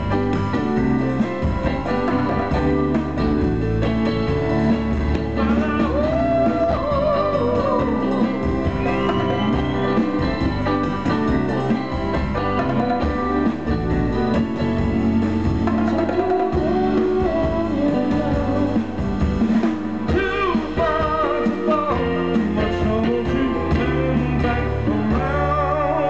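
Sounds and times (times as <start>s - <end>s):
electric guitar lead: 0.0s - 26.0s
live band music: 0.0s - 26.0s.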